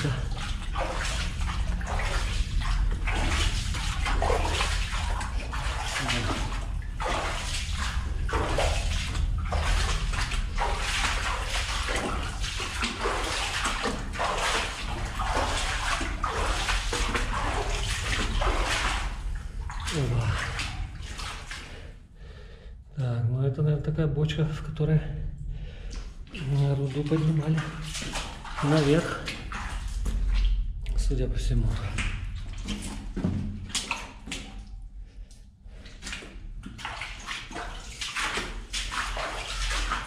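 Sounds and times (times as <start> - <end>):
footsteps splashing in water: 0.0 - 21.9, 25.9 - 40.0
low steady rumble: 0.0 - 33.7.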